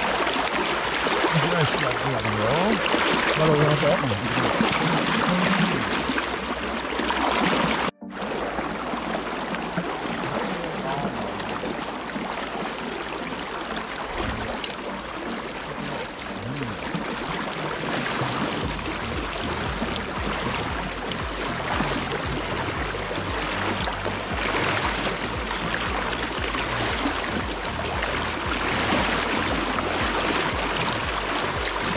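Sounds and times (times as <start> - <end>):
river current splashing around legs: 0.0 - 31.9.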